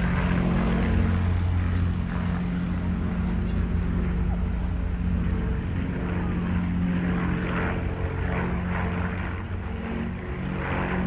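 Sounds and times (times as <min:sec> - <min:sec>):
propeller plane engines droning: 0:00.0 - 0:11.0.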